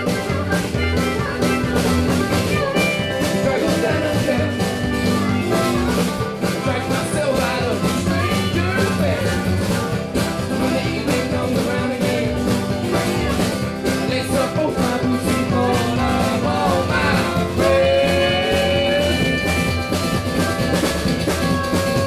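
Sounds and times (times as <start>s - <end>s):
live band playing a song: 0.0s - 22.0s.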